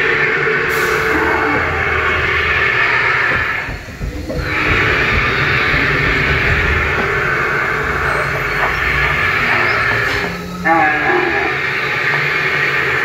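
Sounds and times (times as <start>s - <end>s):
dinosaur roar sound effect: 0.7s - 3.8s, 4.4s - 12.8s.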